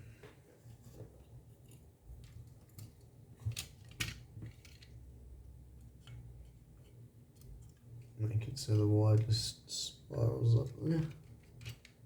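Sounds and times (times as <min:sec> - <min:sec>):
light clicks of plastic parts: 0:00.2 - 0:05.1, 0:05.7 - 0:09.4, 0:10.5 - 0:12.0.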